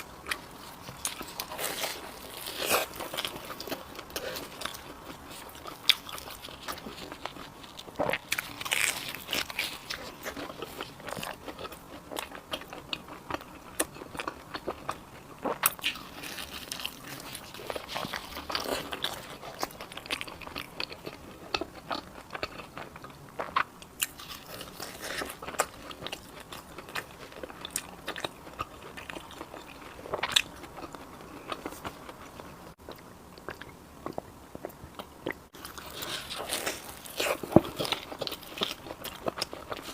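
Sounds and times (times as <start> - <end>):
soft chewing: 0.0 - 39.9.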